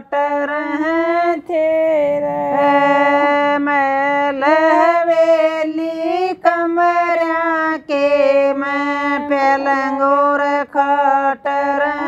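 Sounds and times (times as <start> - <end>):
women singing without instruments: 0.0 - 12.0.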